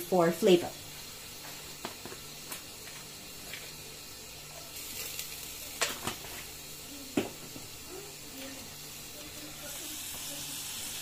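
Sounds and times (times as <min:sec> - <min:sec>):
sauce sizzling in a frying pan: 0:00.0 - 0:11.0.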